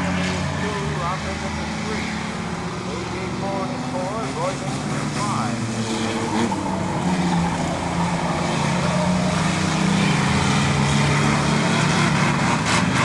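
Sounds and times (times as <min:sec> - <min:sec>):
racing truck engines droning: 0:00.0 - 0:13.0.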